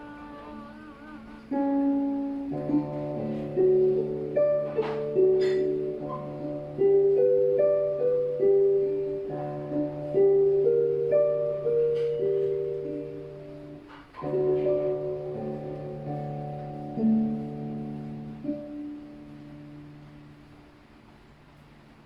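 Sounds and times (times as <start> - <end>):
soft keyboard chords: 0.0 - 22.0.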